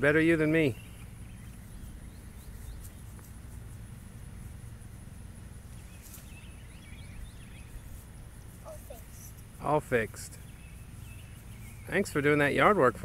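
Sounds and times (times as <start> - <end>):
faint high insect drone: 0.0 - 13.0.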